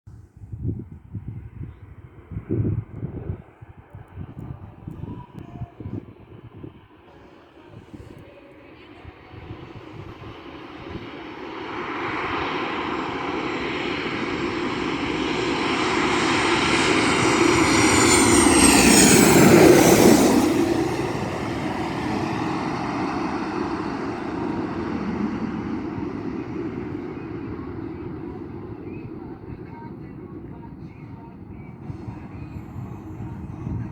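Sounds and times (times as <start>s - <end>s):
aeroplane flying low overhead: 0.3s - 33.9s.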